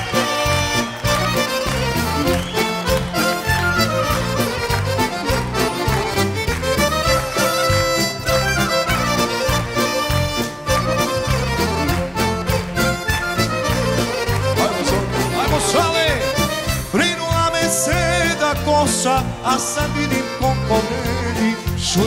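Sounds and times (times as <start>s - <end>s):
accordion melody: 0.0s - 22.0s
bass: 0.0s - 22.0s
steady drum beat: 0.0s - 22.0s.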